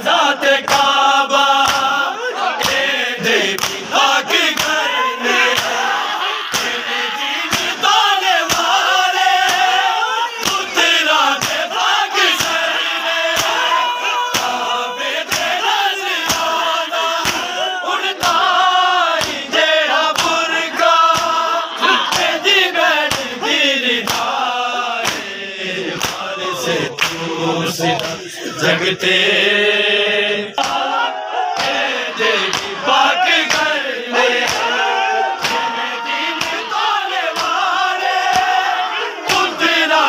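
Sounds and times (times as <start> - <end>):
men chanting a lament: 0.0 - 40.0
hands slapping bare chests: 0.6 - 1.0, 1.6 - 2.0, 2.6 - 26.3, 26.9 - 27.3, 27.9 - 28.2, 30.6 - 39.6.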